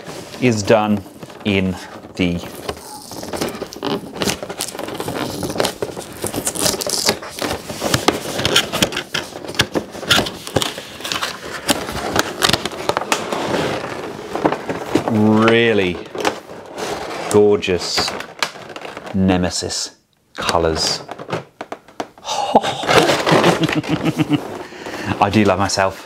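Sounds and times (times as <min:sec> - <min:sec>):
plastic packaging crackling: 0:00.0 - 0:19.6, 0:20.4 - 0:25.9.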